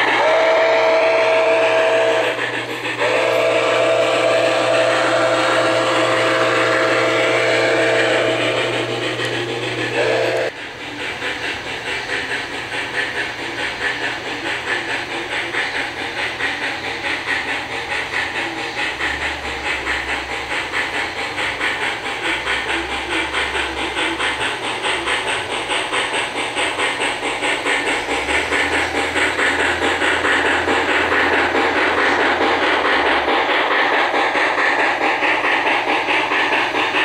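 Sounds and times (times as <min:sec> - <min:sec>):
model steam locomotive chuffing: 0:00.0 - 0:37.0
model train rumbling on track: 0:00.0 - 0:37.0.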